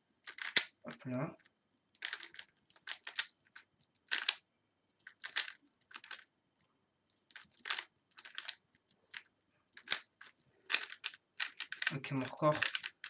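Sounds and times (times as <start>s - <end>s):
puzzle cube layers clicking: 0.3s - 0.8s, 1.4s - 4.4s, 5.0s - 6.3s, 7.1s - 13.0s.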